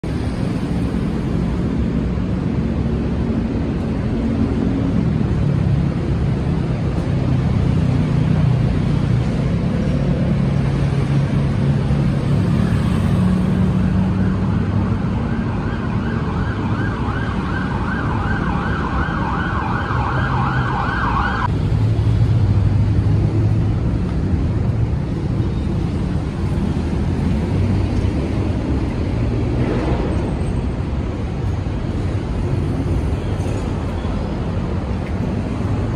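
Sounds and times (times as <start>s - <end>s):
road traffic engines: 0.0s - 35.9s.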